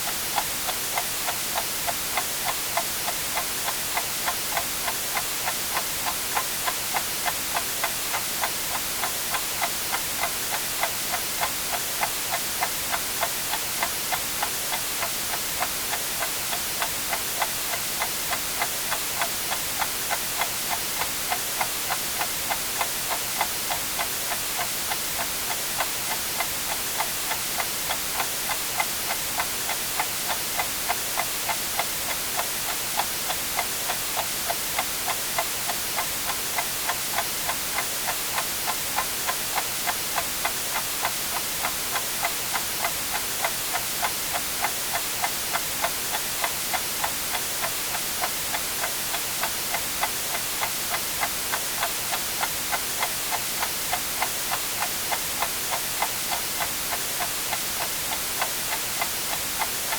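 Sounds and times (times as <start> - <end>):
white noise: 0.0 - 59.9
clock ticking: 0.1 - 59.9.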